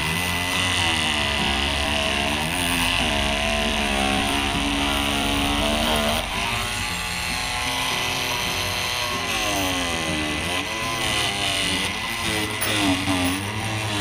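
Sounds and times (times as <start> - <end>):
oscillating multi-tool buzzing: 0.0 - 14.0.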